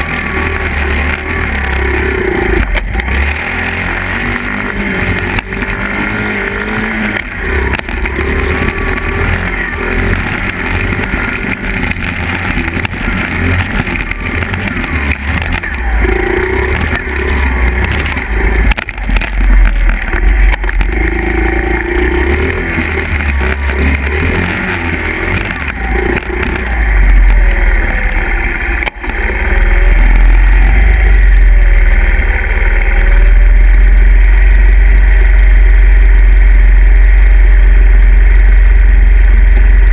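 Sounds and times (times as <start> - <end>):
dirt bike engines revving: 0.0 - 39.9
low rumble: 0.0 - 39.9.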